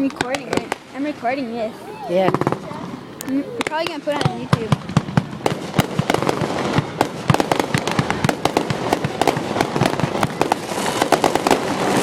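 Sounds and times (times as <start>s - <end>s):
fireworks bangs and pops: 0.0s - 1.6s, 2.2s - 12.0s
fireworks crackle: 0.0s - 12.0s.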